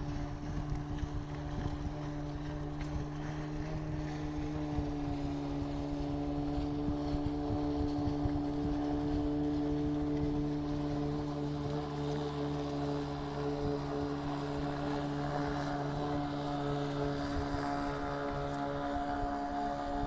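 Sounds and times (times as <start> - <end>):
engine droning: 0.0 - 20.0
wind rumble on microphone: 0.0 - 20.0.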